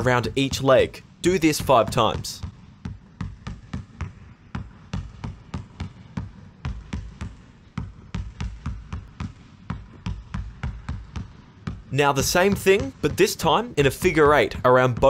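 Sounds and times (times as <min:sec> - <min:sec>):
basketball dribbling on wooden floor: 0:00.0 - 0:15.0.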